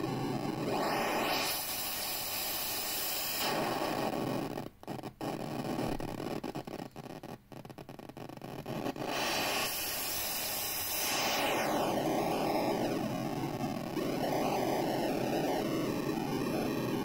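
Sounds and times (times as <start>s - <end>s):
synth white-noise hiss: 0.0s - 17.0s.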